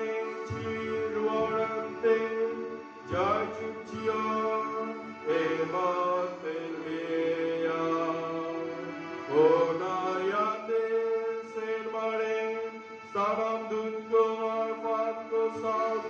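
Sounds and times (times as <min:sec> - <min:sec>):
chant-like hymn singing: 0:00.0 - 0:16.0.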